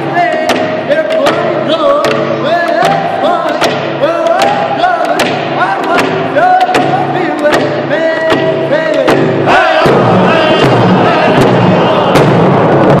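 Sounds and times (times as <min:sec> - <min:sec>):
frame drums beating: 0:00.0 - 0:13.0
group of men singing: 0:01.7 - 0:12.5.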